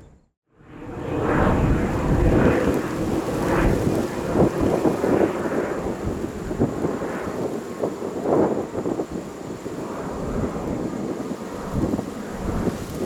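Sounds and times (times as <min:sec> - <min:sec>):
jet engines roaring: 0:00.5 - 0:13.0.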